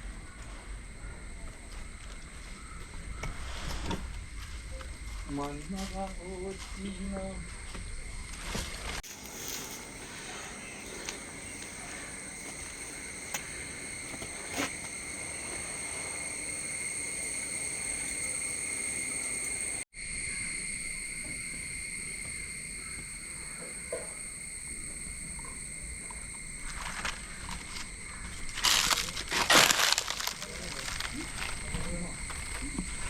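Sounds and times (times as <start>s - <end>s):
high-pitched insect drone: 4.3s - 33.0s.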